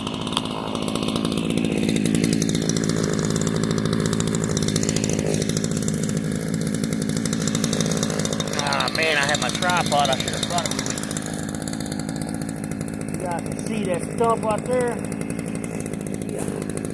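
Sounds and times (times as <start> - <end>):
electric chainsaw cutting stump: 0.0 - 16.9.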